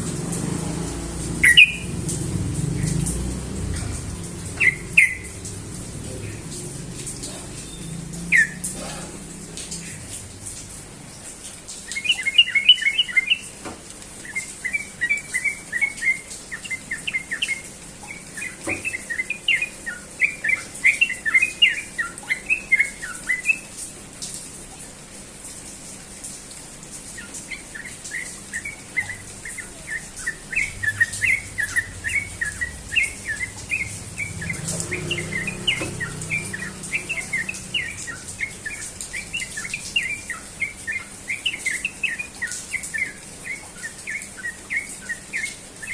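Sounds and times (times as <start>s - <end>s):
bird chattering song: 1.3s - 10.2s, 11.8s - 13.6s, 14.2s - 23.8s, 27.2s - 45.9s.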